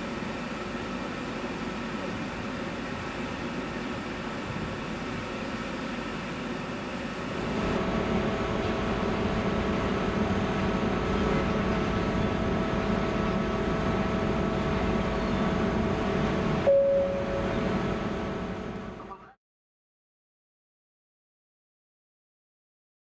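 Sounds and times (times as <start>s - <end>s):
ship engine machinery hum: 0.0s - 19.4s.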